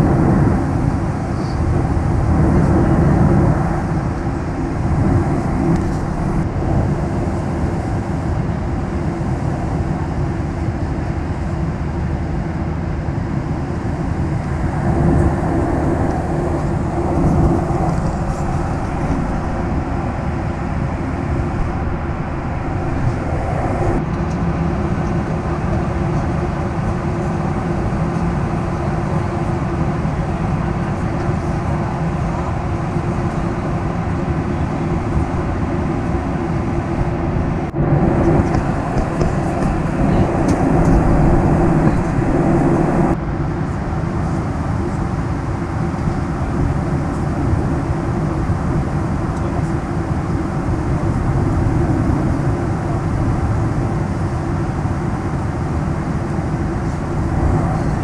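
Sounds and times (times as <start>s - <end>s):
airplane cabin airflow rush: 0.0s - 58.0s
jet engines: 0.0s - 58.0s.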